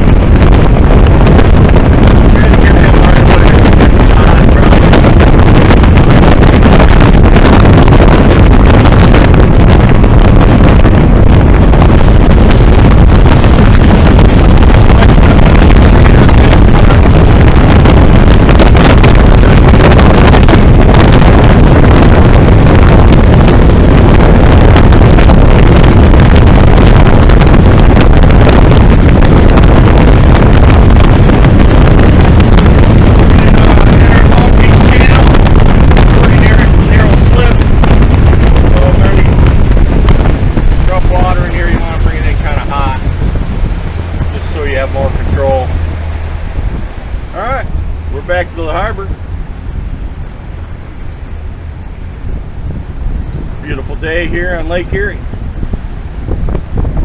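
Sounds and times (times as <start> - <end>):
motorboat engine running: 0.0 - 57.0
wind buffeting microphone: 0.0 - 57.0.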